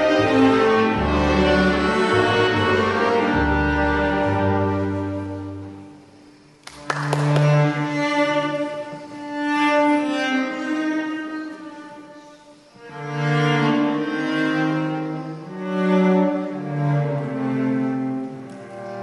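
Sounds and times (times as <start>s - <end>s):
slow cello and ensemble music: 0.0s - 19.0s.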